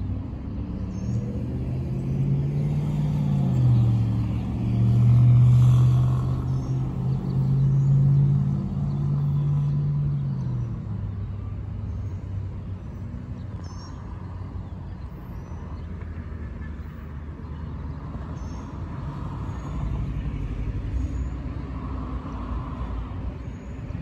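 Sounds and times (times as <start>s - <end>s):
distant vehicles rumbling: 0.0s - 24.0s.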